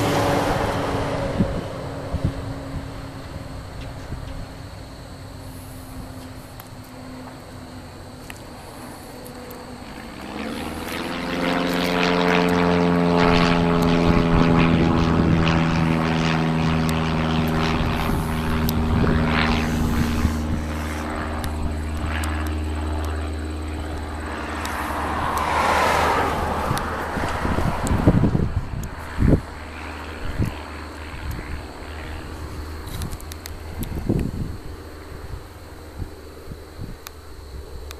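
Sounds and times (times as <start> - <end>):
low hum: 0.0 - 37.9
passing engine drone: 0.0 - 37.9.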